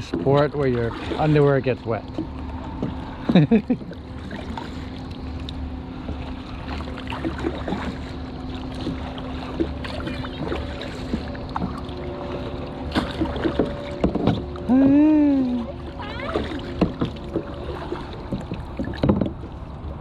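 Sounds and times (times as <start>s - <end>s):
paddle splashes and drips: 0.0s - 20.0s
steady low hum: 0.0s - 20.0s.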